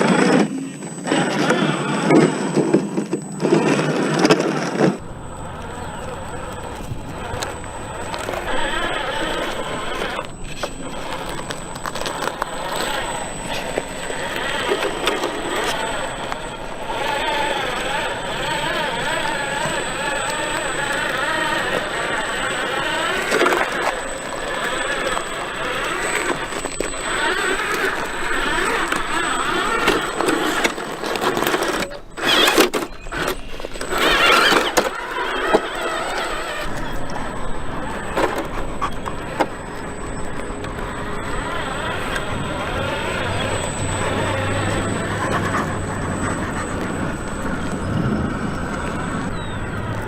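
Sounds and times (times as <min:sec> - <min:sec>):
rc truck motor and tyre noise: 0:00.0 - 0:50.0.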